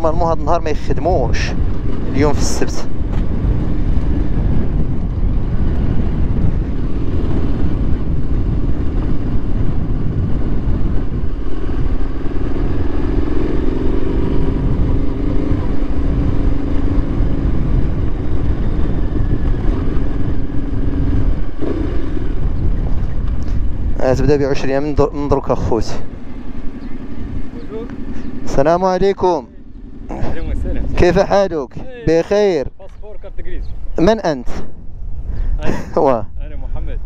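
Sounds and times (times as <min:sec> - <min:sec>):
motorcycle engine low rumble: 0:00.0 - 0:37.0
steady engine drone: 0:00.0 - 0:37.0.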